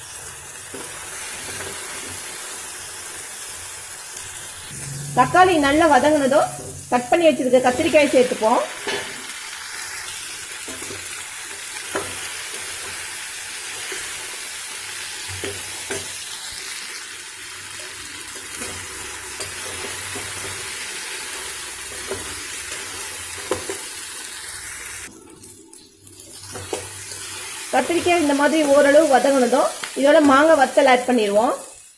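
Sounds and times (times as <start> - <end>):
vegetables sizzling in oil: 0.0 - 31.9.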